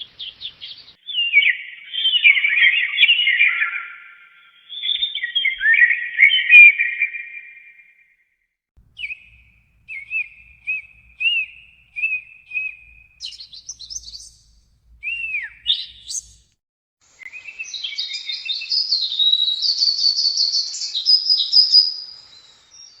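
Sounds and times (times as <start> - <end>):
songbirds chirping: 0.0 - 7.8, 8.8 - 23.0.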